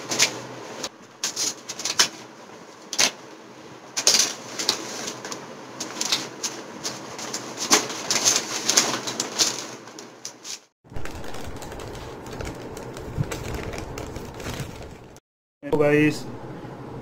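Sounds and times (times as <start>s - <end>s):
paper bag rustling and crinkling: 0.0s - 3.2s, 3.9s - 15.2s.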